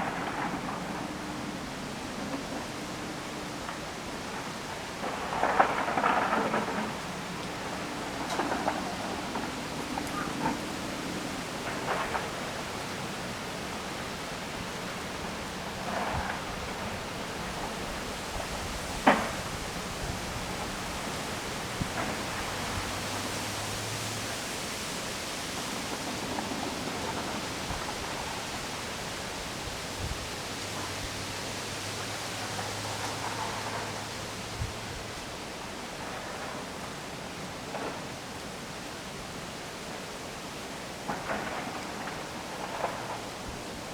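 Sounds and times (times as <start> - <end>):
leaves rustling: 0.0 - 43.9
steady wind: 0.0 - 43.9.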